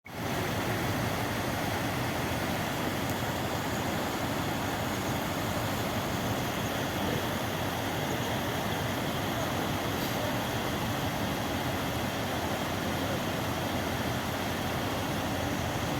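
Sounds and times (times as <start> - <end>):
mountain stream rushing: 0.1 - 15.9.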